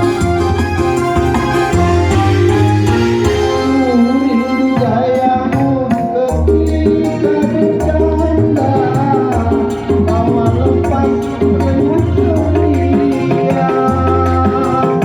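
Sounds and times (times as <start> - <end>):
music with percussive beat: 0.0 - 15.0.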